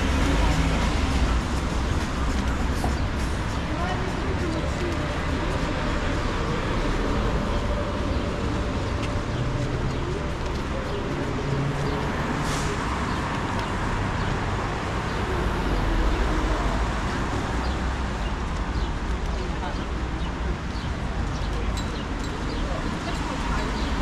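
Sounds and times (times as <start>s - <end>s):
traffic on wet road: 0.0s - 24.0s.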